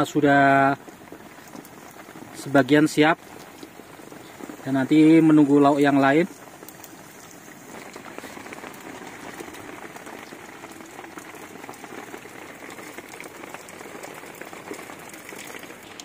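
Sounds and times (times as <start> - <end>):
pot of rice boiling: 0.0 - 16.0
rain pattering on tent: 0.0 - 16.0.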